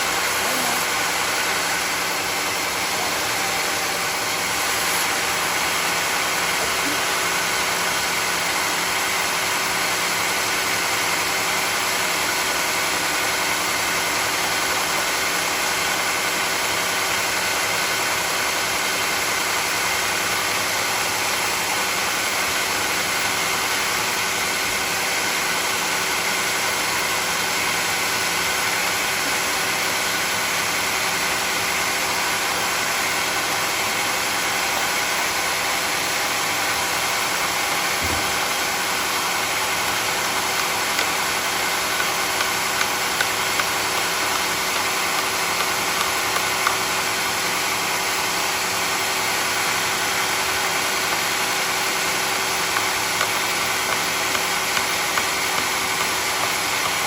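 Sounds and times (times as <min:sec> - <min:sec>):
sawmill machine drone and whine: 0:00.0 - 0:57.0.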